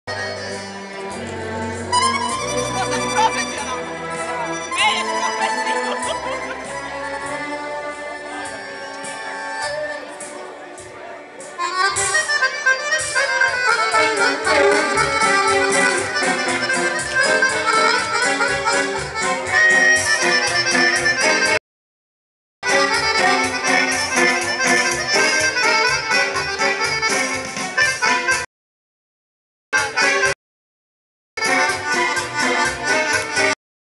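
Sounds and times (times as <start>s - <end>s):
accordion dance music: 0.1s - 21.6s, 22.6s - 28.5s, 29.7s - 30.4s, 31.4s - 33.6s.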